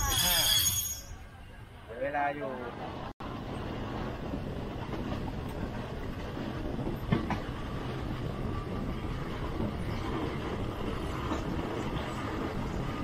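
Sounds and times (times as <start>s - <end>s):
train wheels and carriage noise: 0.0s - 2.1s, 2.7s - 13.0s.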